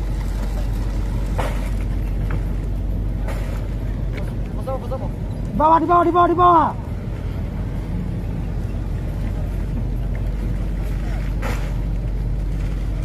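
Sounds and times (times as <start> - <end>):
speedboat engine running: 0.0 - 13.0
water rushing along hull: 0.0 - 13.0.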